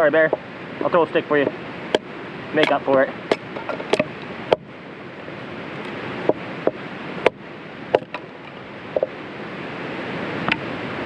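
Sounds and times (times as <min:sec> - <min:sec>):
water: 0:00.0 - 0:11.0
wind: 0:00.0 - 0:11.0.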